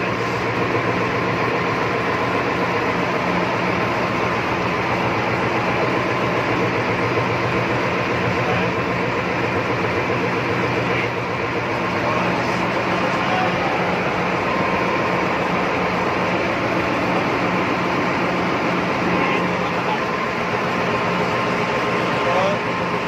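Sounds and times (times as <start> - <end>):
ship machinery droning: 0.0 - 23.0.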